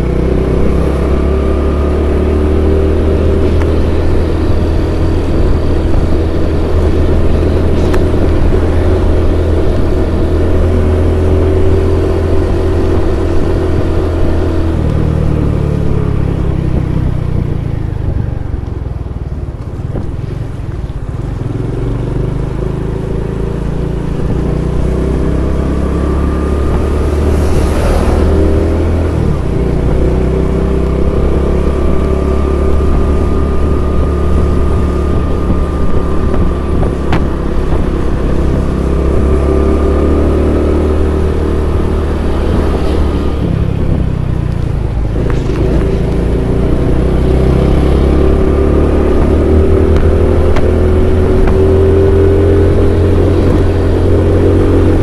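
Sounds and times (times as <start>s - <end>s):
scooter engine running: 0.0s - 55.0s
wind on microphone: 0.0s - 55.0s.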